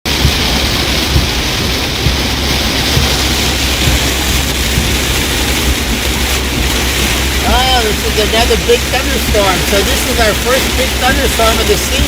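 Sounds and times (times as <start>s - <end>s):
heavy rain on a truck: 0.0s - 12.0s
low vehicle rumble: 0.1s - 12.0s.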